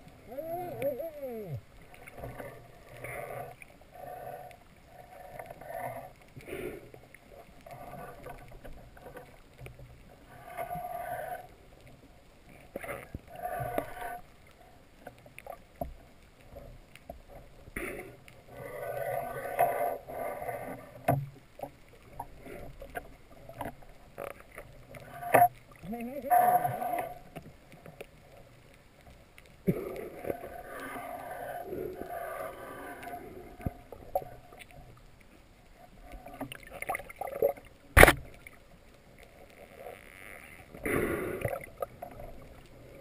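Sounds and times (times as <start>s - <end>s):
faint clicks: 0.0s - 43.0s
underwater gurgling: 0.0s - 43.0s.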